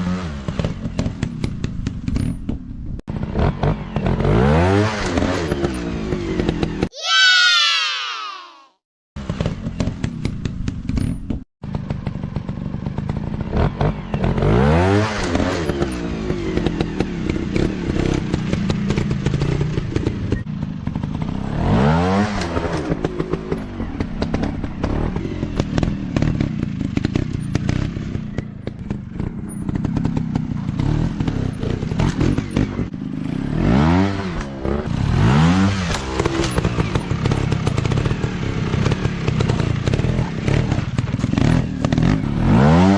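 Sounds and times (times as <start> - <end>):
motorcycle engines revving: 0.0 - 6.9, 9.2 - 42.9.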